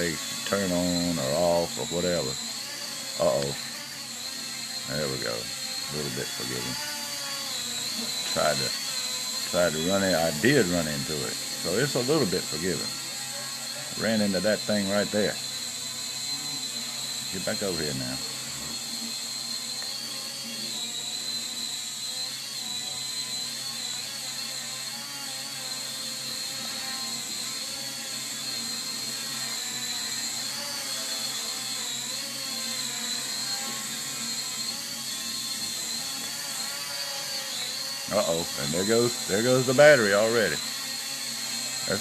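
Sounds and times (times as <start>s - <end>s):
toy drone propellers whining: 0.0s - 42.0s.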